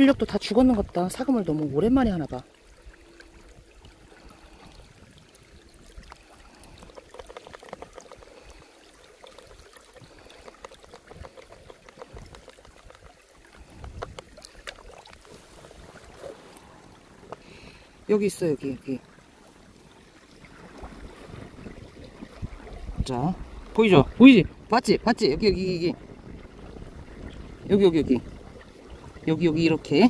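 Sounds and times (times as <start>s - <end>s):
stream water trickling: 0.0s - 30.0s.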